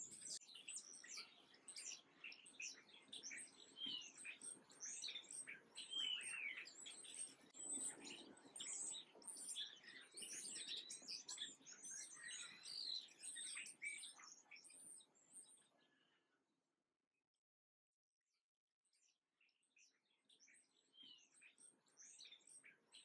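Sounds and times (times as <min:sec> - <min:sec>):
songbirds chirping: 0:00.0 - 0:16.3, 0:19.0 - 0:23.0.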